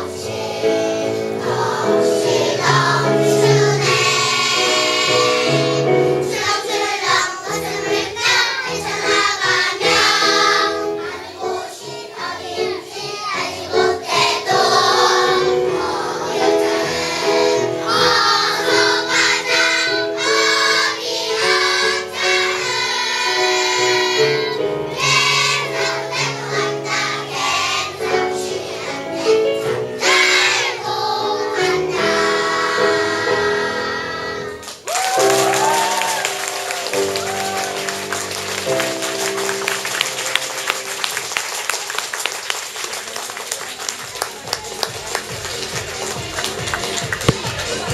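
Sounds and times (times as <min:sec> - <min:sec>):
children's choir singing: 0:00.0 - 0:41.6
instrumental accompaniment: 0:00.0 - 0:41.6.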